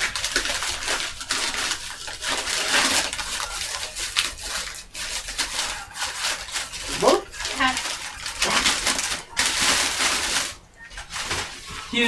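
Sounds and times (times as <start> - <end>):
paper and cardboard rustling: 0.0 - 12.0.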